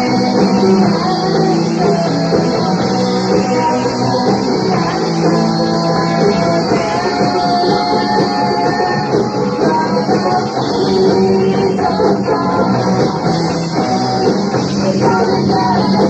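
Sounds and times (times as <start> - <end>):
bass guitar: 0.0 - 16.0
drum kit: 0.0 - 16.0
electric guitars: 0.0 - 16.0.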